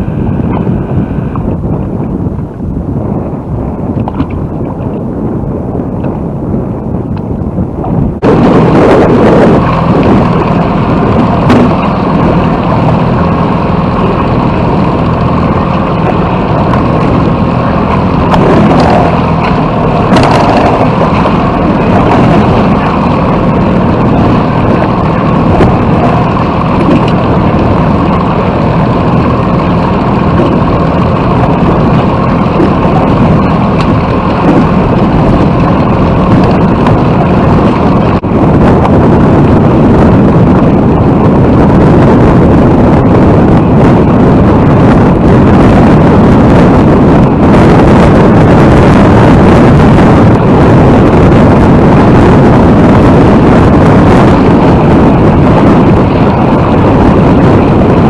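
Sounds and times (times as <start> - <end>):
low rumble: 0.0 - 58.0
wind buffeting microphone: 0.0 - 58.0.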